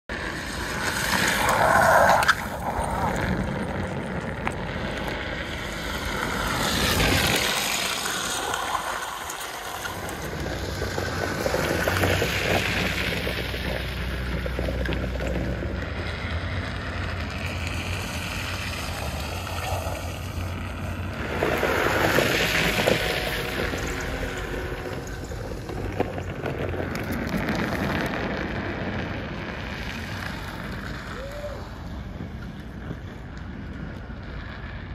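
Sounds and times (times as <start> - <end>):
tyres sliding on asphalt: 0.1 - 34.9.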